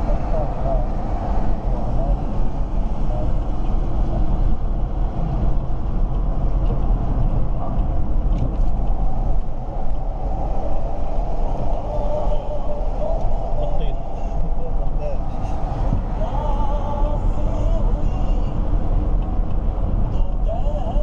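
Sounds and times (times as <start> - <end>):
road and engine rumble in car cabin: 0.0 - 21.0.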